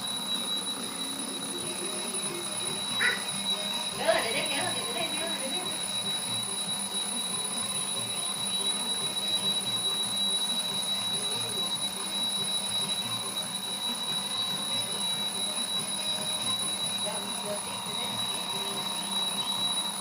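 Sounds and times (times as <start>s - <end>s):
high-pitched alarm tone: 0.0s - 20.0s.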